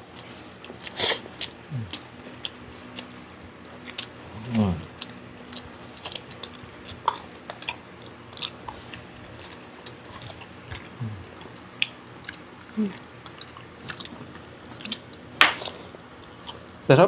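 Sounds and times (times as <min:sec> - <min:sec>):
person chewing food: 0:00.0 - 0:16.9.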